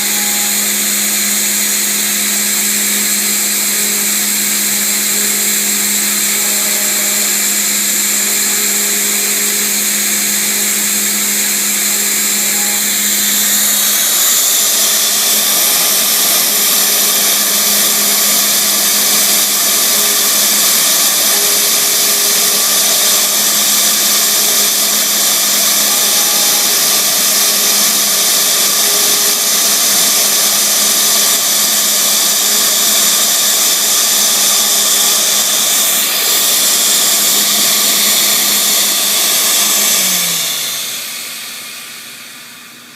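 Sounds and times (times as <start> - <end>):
router spindle noise: 0.0 - 42.9.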